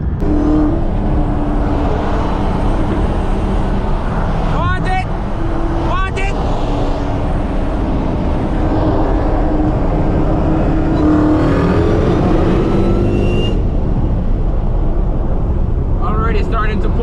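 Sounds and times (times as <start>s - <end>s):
car engine accelerating hard: 0.0s - 16.2s.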